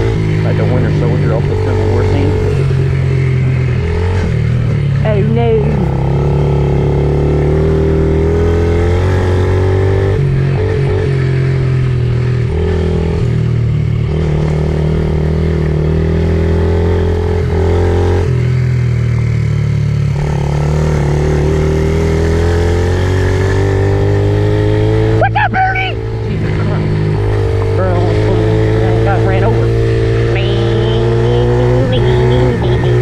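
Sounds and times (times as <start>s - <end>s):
pit bike engine revving: 0.0s - 33.0s.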